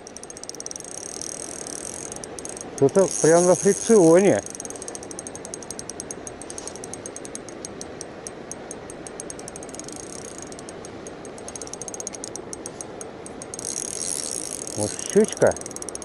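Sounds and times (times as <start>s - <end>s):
fishing reel drag clicking: 0.0s - 16.0s.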